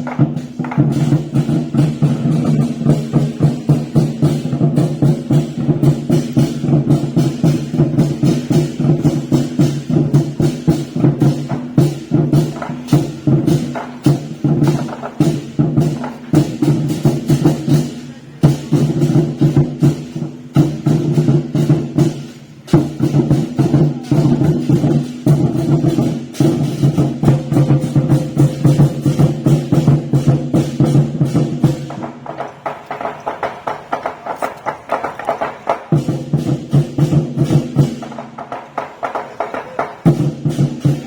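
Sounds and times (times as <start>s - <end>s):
rapid drum strikes: 0.0s - 41.0s.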